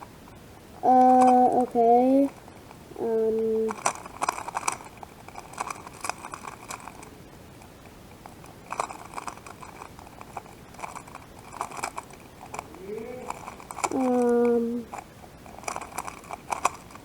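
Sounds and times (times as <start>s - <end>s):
puzzle cube rattling clicks: 0.8s - 2.4s, 3.0s - 17.0s.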